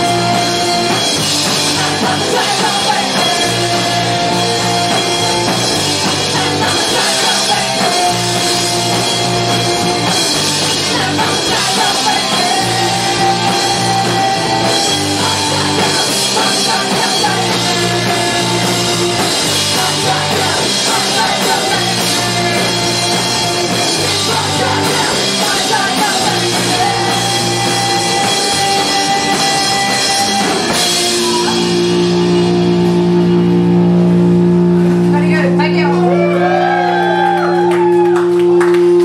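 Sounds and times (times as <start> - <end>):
person singing: 0.0 - 32.0
distorted electric guitar: 0.0 - 39.0
drum kit: 0.0 - 39.0
electric bass: 0.0 - 39.0.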